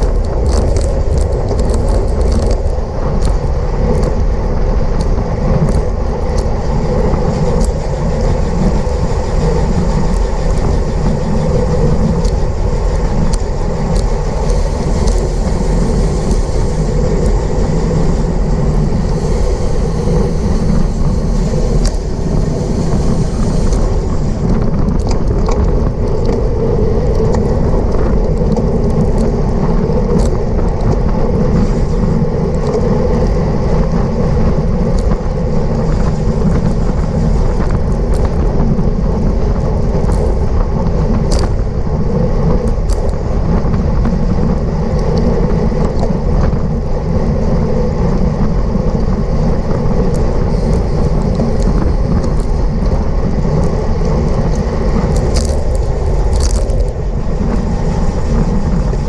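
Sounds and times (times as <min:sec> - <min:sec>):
bike tyre noise on road: 0:00.0 - 0:59.0
wind rushing over microphone: 0:00.0 - 0:59.0.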